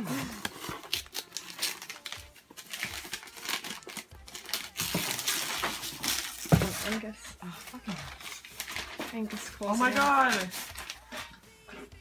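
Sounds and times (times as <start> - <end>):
paper wrapping crinkling and tearing: 0.0 - 11.4.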